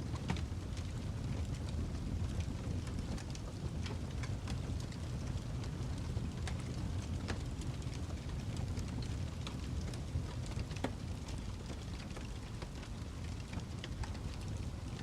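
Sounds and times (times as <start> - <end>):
fireplace crackling: 0.2 - 15.0.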